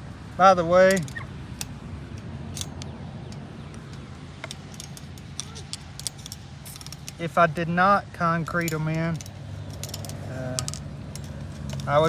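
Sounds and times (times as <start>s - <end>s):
wire fence clip clicks: 0.8s - 7.3s, 8.5s - 12.0s.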